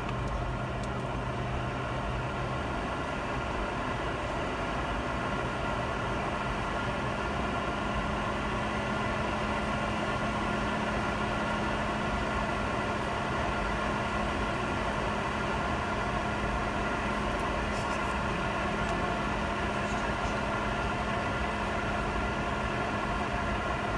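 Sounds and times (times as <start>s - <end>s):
airliner cabin engine hum: 0.0s - 23.9s.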